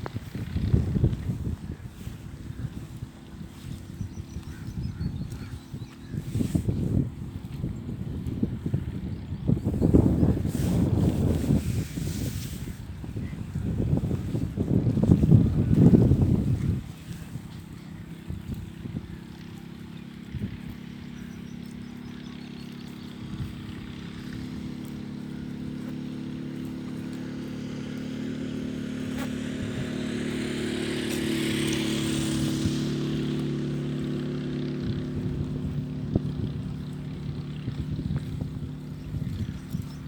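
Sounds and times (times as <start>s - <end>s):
engine passing by: 0.0s - 40.0s.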